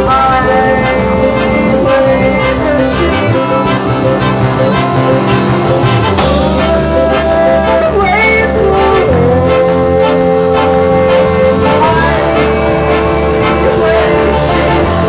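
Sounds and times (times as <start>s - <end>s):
big band playing: 0.0s - 15.0s.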